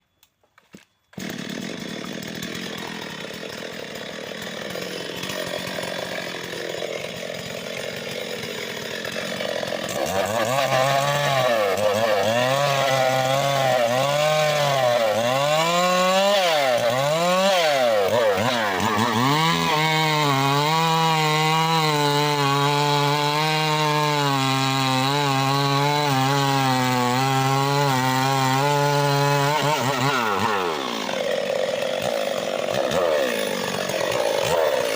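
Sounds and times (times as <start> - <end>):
petrol saw engine revving: 1.2 - 34.9.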